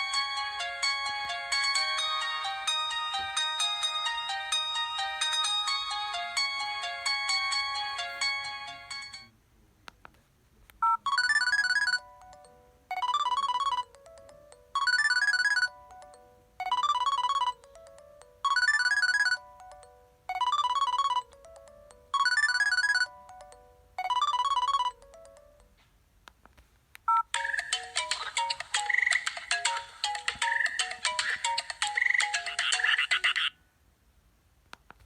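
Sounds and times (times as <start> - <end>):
electronic phone ringtone: 0.0 - 9.3, 10.8 - 25.7, 27.1 - 33.5.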